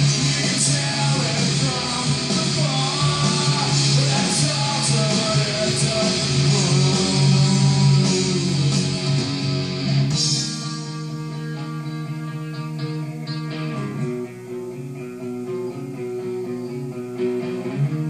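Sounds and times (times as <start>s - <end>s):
electric guitar ringing: 0.0s - 18.0s
rock band playing live: 0.0s - 18.0s.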